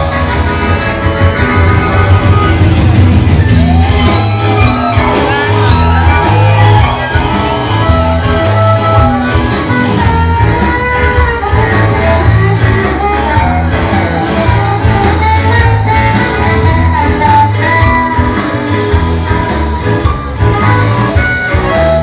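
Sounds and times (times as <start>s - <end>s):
electric guitar lines: 0.0s - 22.0s
heavy bass: 0.0s - 22.0s
rock band playing live: 0.0s - 22.0s.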